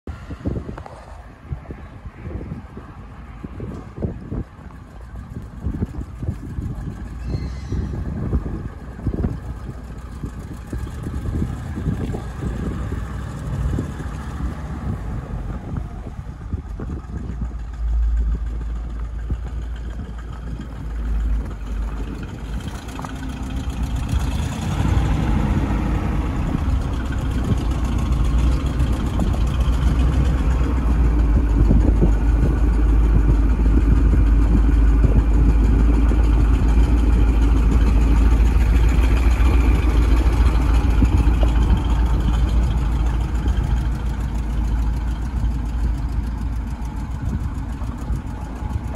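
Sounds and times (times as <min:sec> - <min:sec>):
truck engine running: 0:00.2 - 0:48.9.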